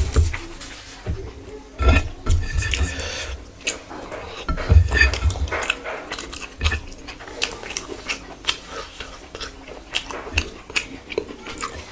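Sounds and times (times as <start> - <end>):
person chewing food: 0.0 - 11.9.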